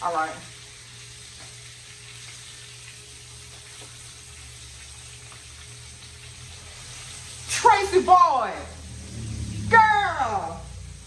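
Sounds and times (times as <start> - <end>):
hot oil sizzling in a skillet: 0.0 - 11.0.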